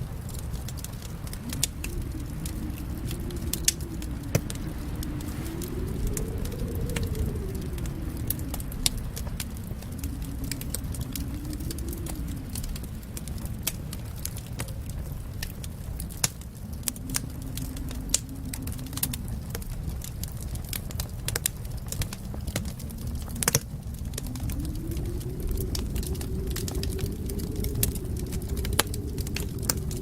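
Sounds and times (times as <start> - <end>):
low rumble of burning: 0.0 - 30.0
wood fire crackling: 0.0 - 30.0
sharp pops and snaps: 0.2 - 30.0.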